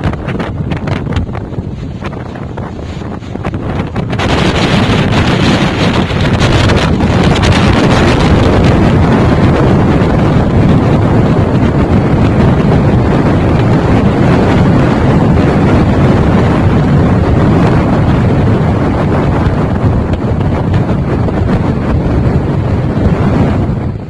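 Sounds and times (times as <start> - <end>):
wind gusts on microphone: 0.0 - 24.0.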